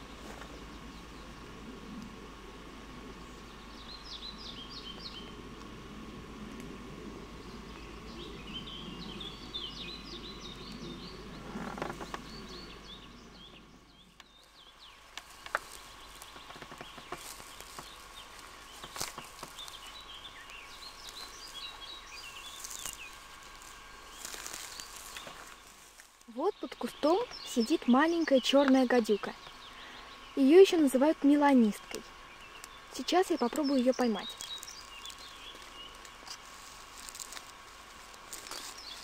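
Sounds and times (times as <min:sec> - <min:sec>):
low rumbling microphone noise: 0:00.0 - 0:39.0
songbirds chirping: 0:00.0 - 0:39.0.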